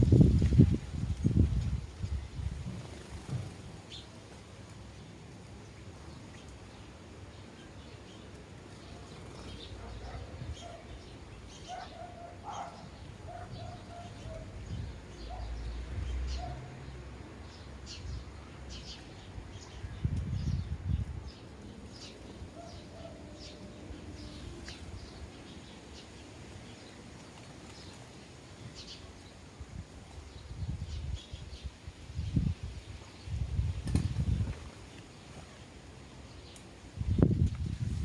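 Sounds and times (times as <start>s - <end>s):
sparrows chirping: 0.0s - 38.0s.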